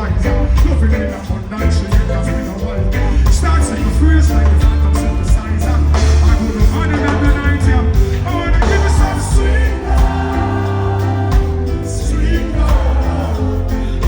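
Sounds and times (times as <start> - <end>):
person singing: 0.0 - 14.0
reggae music with heavy bass: 0.0 - 14.0.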